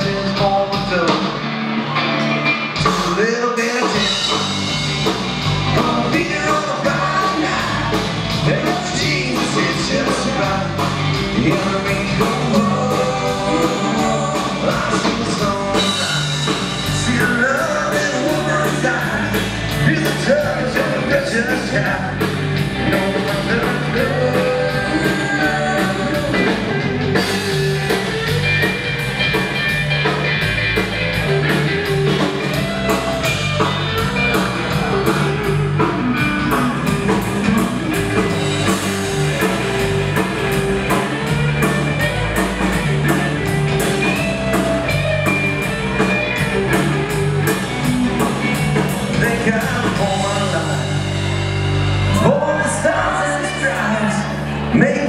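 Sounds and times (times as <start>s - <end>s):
bass guitar: 0.0s - 55.0s
electric guitars: 0.0s - 55.0s
drum kit steady beat: 2.7s - 54.1s.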